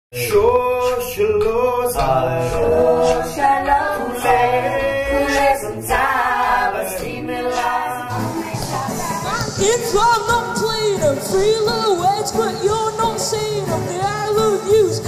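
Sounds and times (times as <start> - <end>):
voices singing in harmony: 0.2 - 15.0
steady beat: 2.0 - 15.0.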